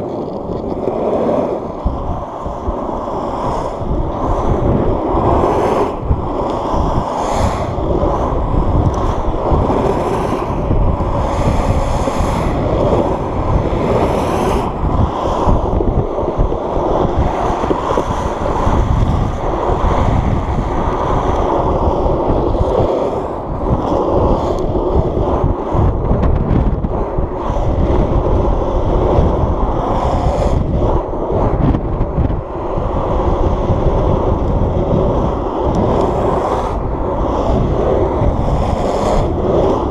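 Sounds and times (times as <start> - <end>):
wheels rolling on asphalt: 0.0 - 39.9
wind noise on microphone: 0.0 - 39.9.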